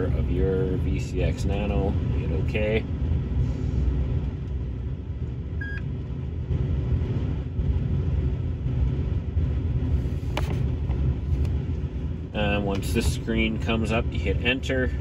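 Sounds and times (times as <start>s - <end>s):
truck cab rumble: 0.0s - 15.0s.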